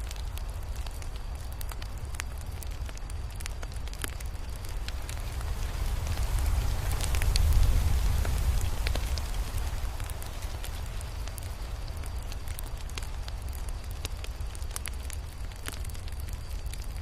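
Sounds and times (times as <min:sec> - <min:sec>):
fire popping and snapping: 0:00.0 - 0:17.0.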